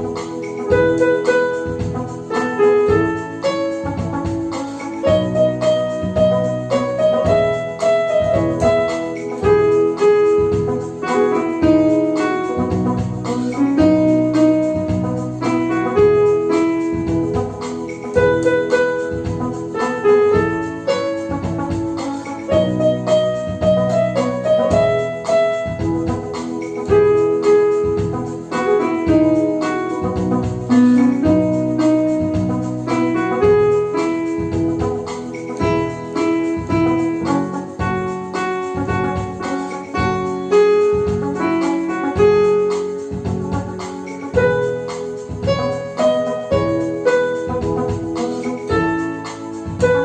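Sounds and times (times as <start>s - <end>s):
electronic keyboard melody: 0.0s - 50.0s
programmed drum rhythm: 0.0s - 50.0s.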